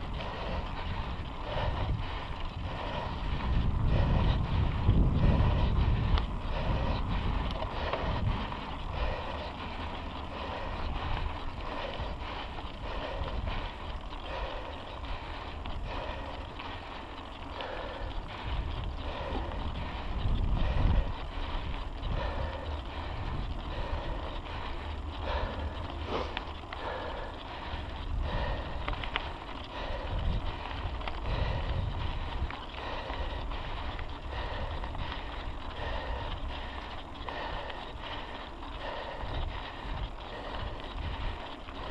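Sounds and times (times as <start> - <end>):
bicycle tyres on pavement: 0.0 - 41.9
bike rattling: 0.0 - 41.9
wind buffeting microphone: 0.0 - 41.9.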